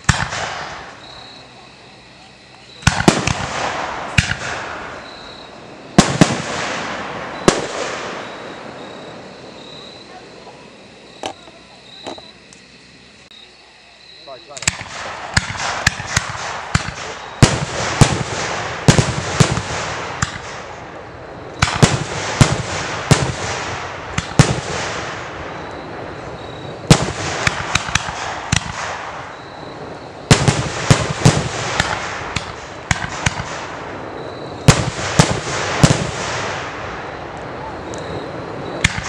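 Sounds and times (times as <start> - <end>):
fireworks bangs: 0.0 - 12.4, 14.3 - 39.0
fireworks crackling hiss: 0.0 - 39.0.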